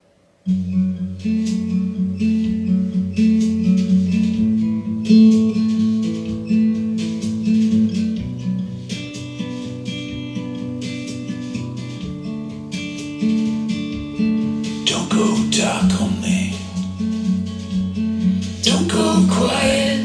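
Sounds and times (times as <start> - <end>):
guitar and bass over loudspeakers: 0.5 - 20.0.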